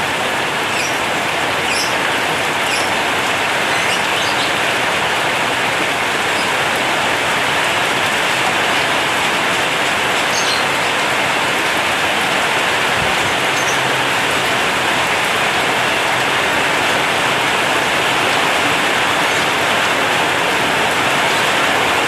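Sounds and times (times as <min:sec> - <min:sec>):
heavy rain on a metal roof: 0:00.0 - 0:22.0.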